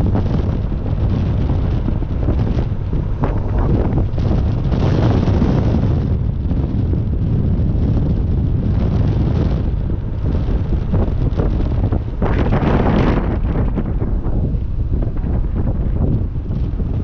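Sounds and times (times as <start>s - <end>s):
car engine cruising: 0.0s - 16.8s
wind buffeting microphone: 0.0s - 17.0s.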